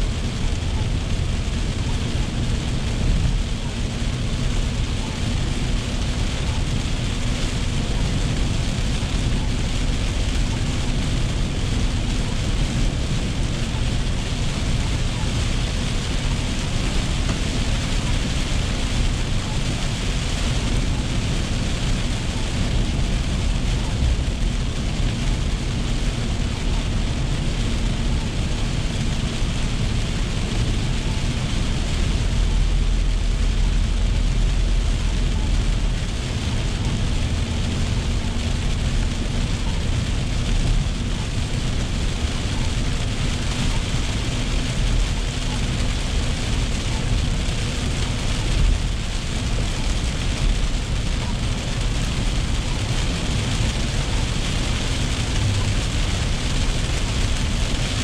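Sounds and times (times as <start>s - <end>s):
rain hitting car roof: 0.0s - 58.0s.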